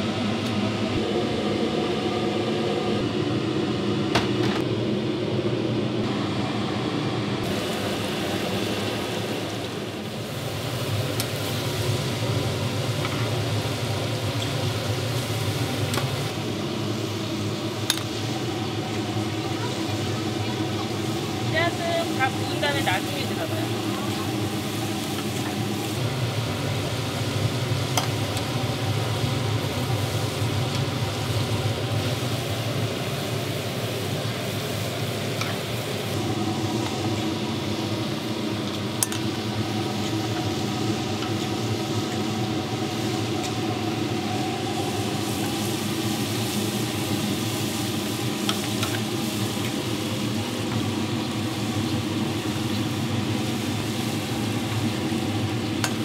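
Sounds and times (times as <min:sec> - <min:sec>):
pancakes sizzling in hot fat: 0:07.4 - 0:56.0.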